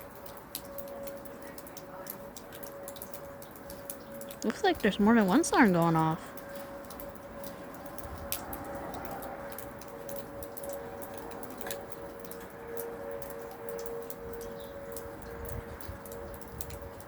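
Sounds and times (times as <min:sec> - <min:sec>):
distant warning sirens: 0:00.0 - 0:17.0
two-tone electronic siren: 0:00.0 - 0:17.0.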